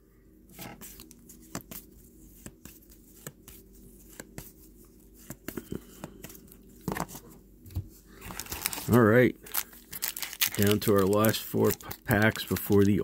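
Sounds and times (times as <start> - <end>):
cards being flipped: 0.5 - 7.2, 8.3 - 13.0.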